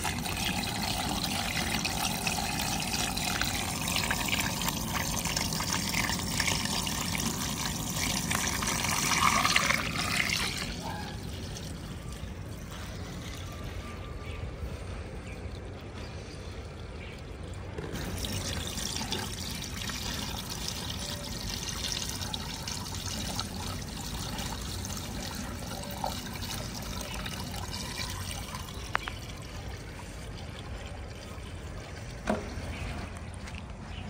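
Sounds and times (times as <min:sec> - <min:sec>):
mud pouring from bucket: 0:00.0 - 0:13.8, 0:17.4 - 0:34.0.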